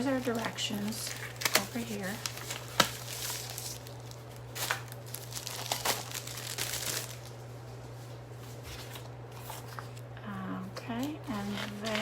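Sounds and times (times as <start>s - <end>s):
paper rustling and crinkling: 0.0s - 10.1s, 11.0s - 12.0s
steady low hum: 0.0s - 12.0s.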